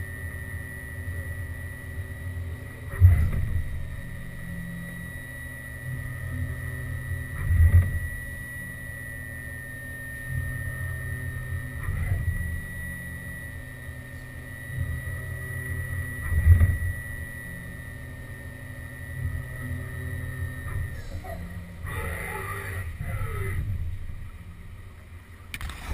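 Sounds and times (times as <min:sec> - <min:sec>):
high machine whine: 0:00.0 - 0:25.9
machine hum: 0:00.0 - 0:25.9.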